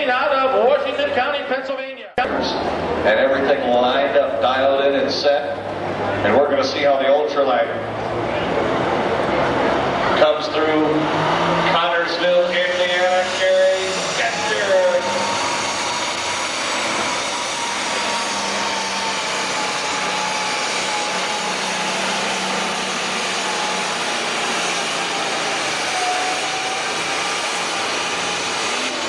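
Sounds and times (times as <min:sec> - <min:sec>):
diesel tractor engine at full power: 0:02.2 - 0:29.0.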